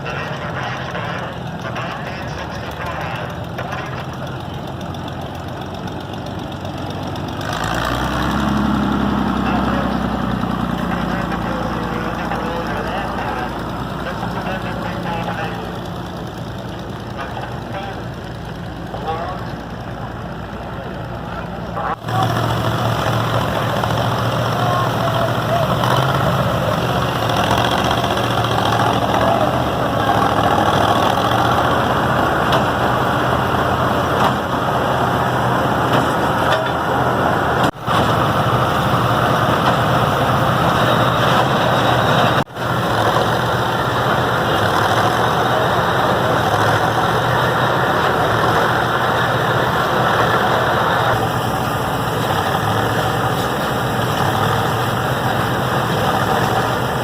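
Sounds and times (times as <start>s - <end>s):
hay baler engine drone: 0.0s - 57.0s.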